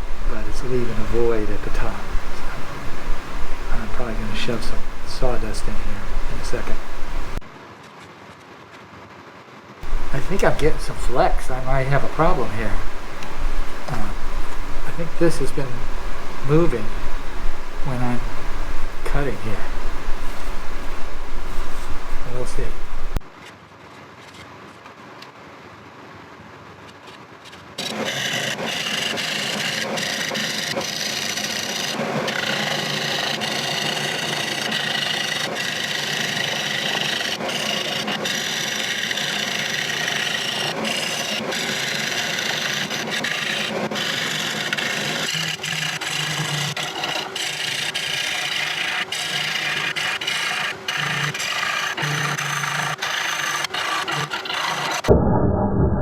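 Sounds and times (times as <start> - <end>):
lathe spinning: 0.0 - 7.4, 9.8 - 23.2, 27.8 - 55.2
tool scraping wood: 0.0 - 7.4, 9.8 - 23.2, 27.8 - 55.1.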